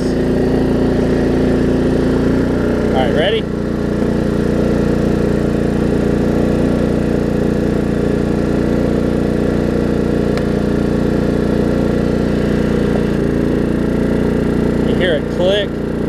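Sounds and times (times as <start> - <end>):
riding mower engine running: 0.0 - 16.0.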